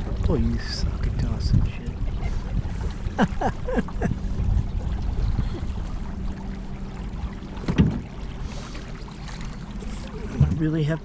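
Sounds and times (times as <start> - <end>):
wind rumbling on microphone: 0.0 - 10.6
water against boat: 0.0 - 11.0.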